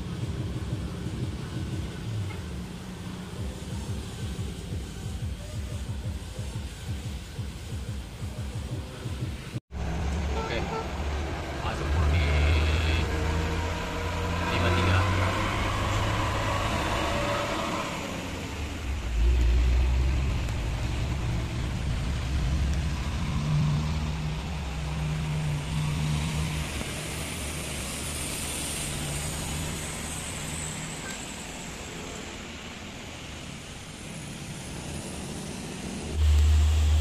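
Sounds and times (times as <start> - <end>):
engine hum: 0.0 - 37.0
tyre hiss on road: 0.9 - 9.5, 13.9 - 37.0.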